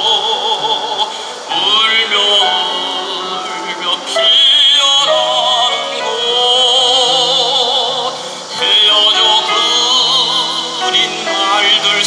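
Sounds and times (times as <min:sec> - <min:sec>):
grand piano: 0:00.0 - 0:12.0
tenor singing classical song: 0:00.0 - 0:12.0.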